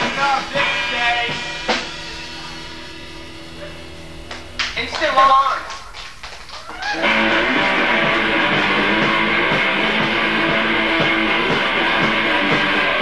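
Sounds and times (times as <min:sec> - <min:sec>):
strummed electric guitar: 0:00.0 - 0:04.7, 0:06.9 - 0:13.0
live rock music: 0:00.0 - 0:05.9, 0:06.7 - 0:13.0.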